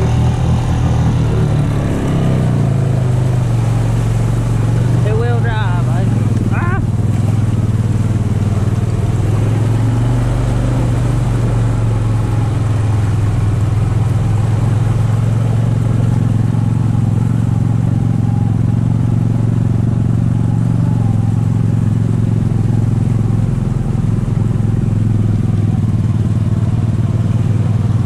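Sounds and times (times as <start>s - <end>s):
atv engine humming: 0.0s - 28.0s.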